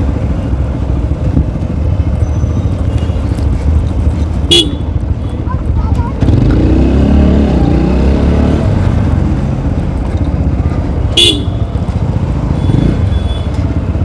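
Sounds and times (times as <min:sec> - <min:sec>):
motorcycle engine at crawling speed: 0:00.0 - 0:14.0
traffic: 0:00.0 - 0:14.0.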